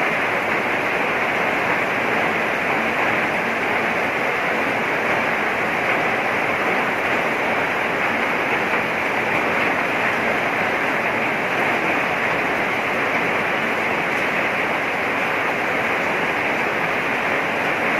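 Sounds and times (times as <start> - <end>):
heavy rain falling: 0.0 - 17.9.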